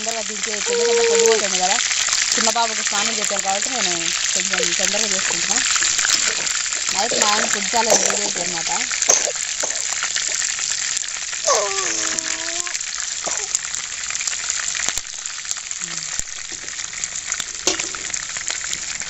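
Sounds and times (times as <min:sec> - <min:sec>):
chicken sizzling in a frying pan: 0:00.0 - 0:19.0.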